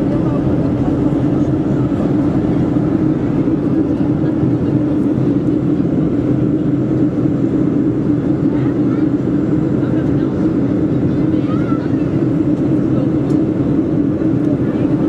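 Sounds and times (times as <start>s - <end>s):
airflow rushing in aircraft cabin: 0.0s - 15.0s
jet engines humming: 0.0s - 15.0s.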